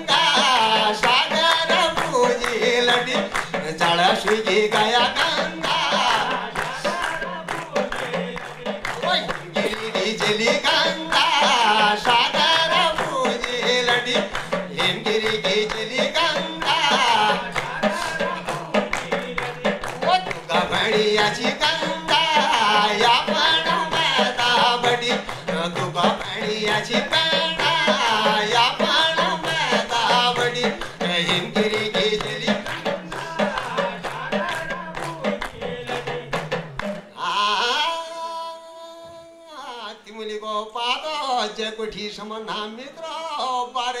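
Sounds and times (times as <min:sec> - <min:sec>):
hand clapping: 0:00.0 - 0:37.1
hand drum beaten: 0:00.0 - 0:37.1
man singing: 0:00.0 - 0:44.0.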